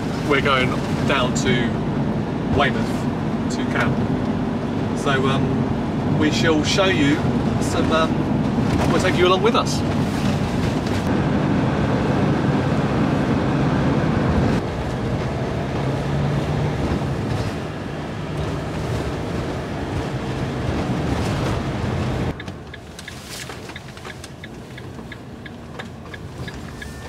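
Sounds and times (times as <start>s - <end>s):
engine hum inside vehicle: 0.0s - 27.0s.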